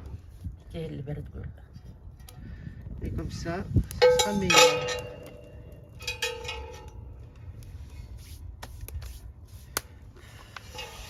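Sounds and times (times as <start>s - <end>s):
steady low rumble: 1.5s - 11.0s.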